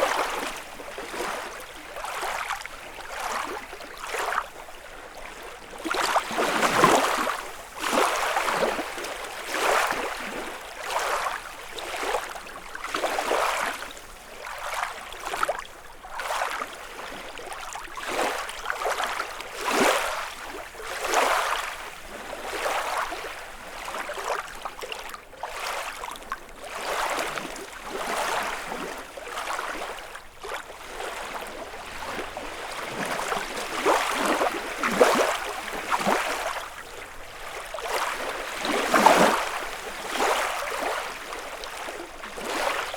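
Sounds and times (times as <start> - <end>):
waves lapping against shore: 0.0 - 42.9.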